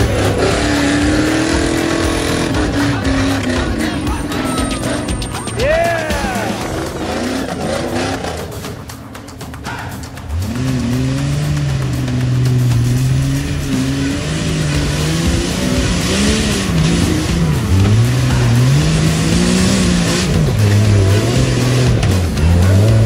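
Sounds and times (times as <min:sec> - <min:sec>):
engine revving under load: 0:00.0 - 0:05.6, 0:06.2 - 0:23.0.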